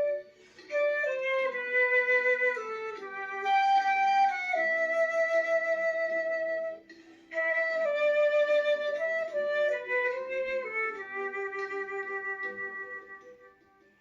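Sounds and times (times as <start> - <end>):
flute playing slow melody: 0.0 - 14.0.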